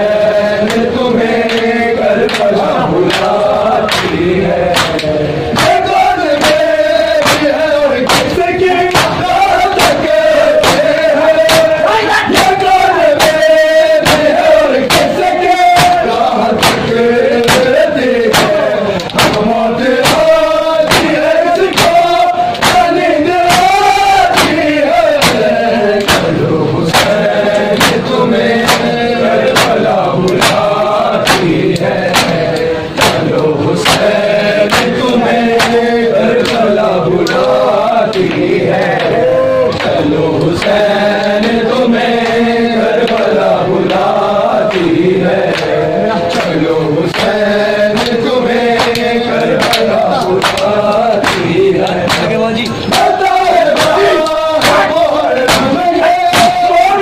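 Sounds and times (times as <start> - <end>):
hands beating chests: 0.0 - 57.0
men chanting in unison: 0.0 - 57.0.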